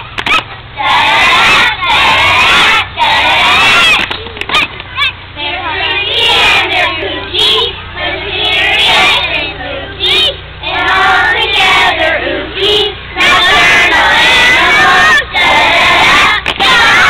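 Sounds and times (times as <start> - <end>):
children singing in unison: 0.8 - 4.0, 5.4 - 17.0.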